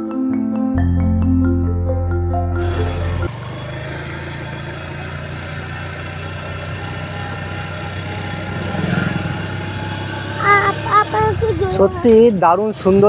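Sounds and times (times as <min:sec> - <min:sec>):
vehicle engine running: 0:02.5 - 0:13.0.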